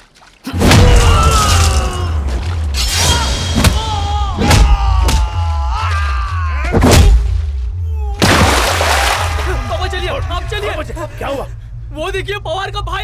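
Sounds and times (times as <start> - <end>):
heavy background score: 0.4 - 13.0.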